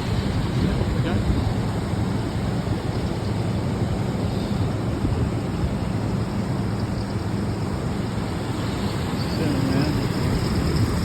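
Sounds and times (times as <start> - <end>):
engine humming: 0.0 - 11.0
wind: 0.0 - 11.0.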